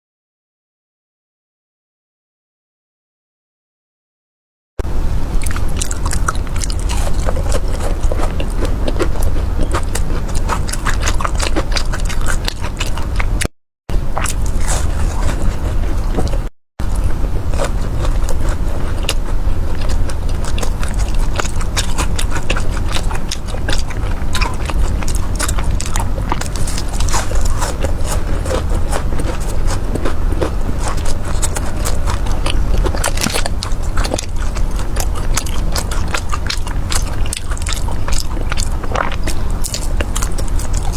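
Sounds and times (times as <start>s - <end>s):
crunchy pastry chewing: 5.3s - 40.9s.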